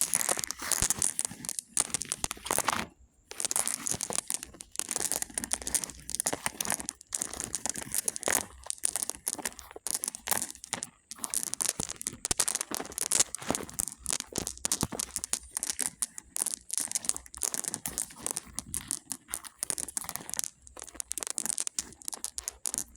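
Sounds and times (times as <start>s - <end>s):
pebbles clattering together: 0.0s - 22.9s.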